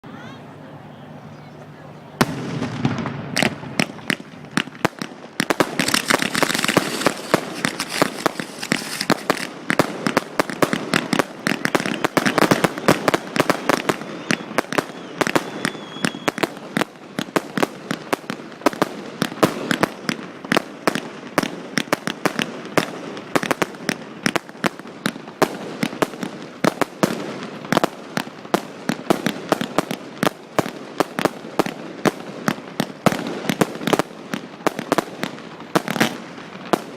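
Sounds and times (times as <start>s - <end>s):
fireworks bangs and crackling: 2.1s - 36.9s
fireworks hiss: 2.2s - 36.9s.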